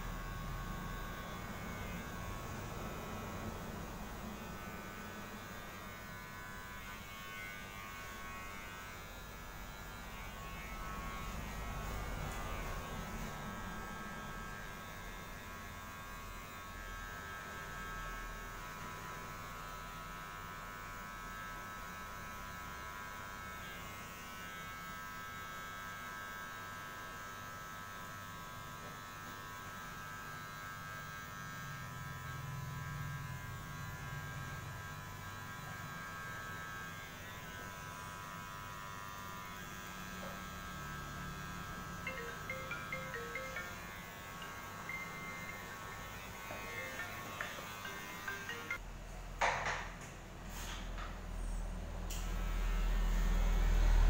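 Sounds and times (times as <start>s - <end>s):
vibrating massage pen buzzing: 0.0s - 48.9s.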